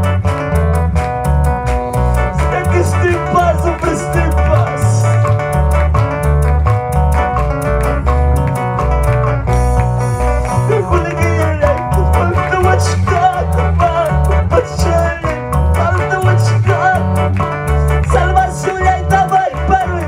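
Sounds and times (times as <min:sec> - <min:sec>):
live worship band music: 0:00.0 - 0:20.0.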